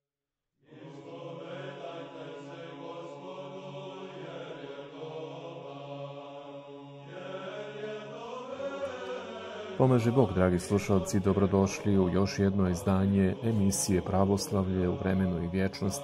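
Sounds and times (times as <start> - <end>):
voices chanting: 0.7 - 16.0.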